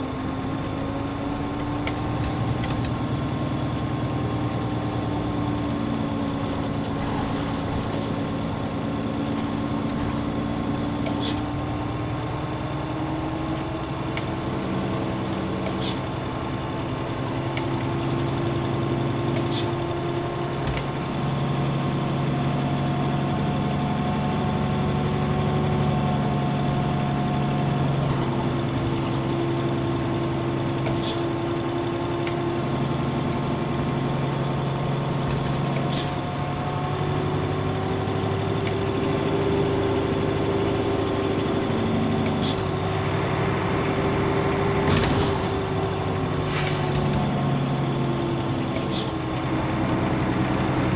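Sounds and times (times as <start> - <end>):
bus diesel engine drone: 0.0 - 50.9.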